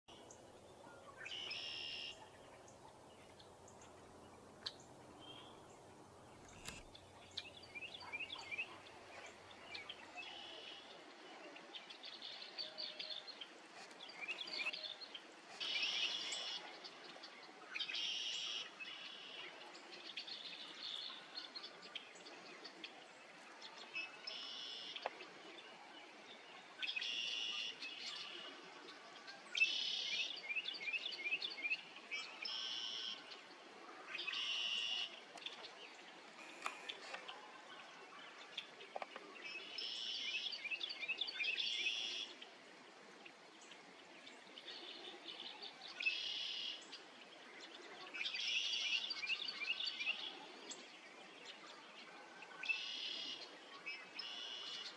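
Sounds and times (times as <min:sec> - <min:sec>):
faint steady hiss: 0:00.1 - 0:54.9
songbirds singing: 0:00.1 - 0:54.9.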